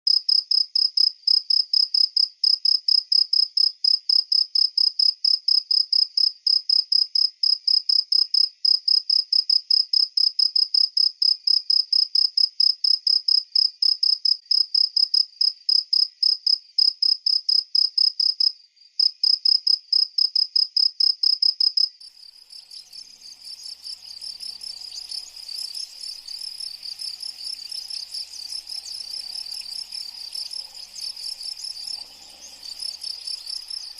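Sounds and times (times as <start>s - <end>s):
chorus of many insects: 0.1s - 33.9s
cricket chirping: 0.1s - 33.9s.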